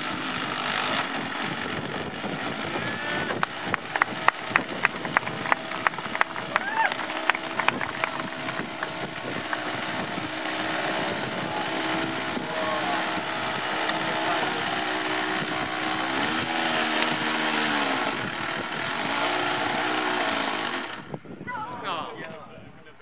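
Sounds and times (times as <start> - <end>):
model aircraft engine buzzing: 0.0 - 21.3.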